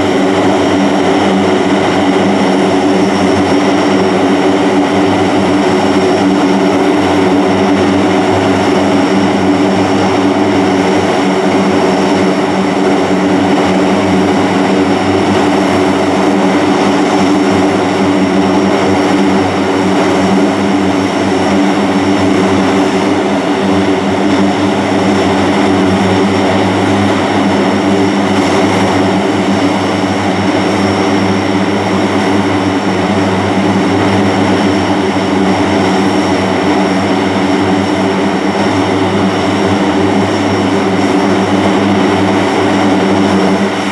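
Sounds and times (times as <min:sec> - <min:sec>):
high turbine whine: 0:00.0 - 0:43.9
propeller drone: 0:00.0 - 0:43.9.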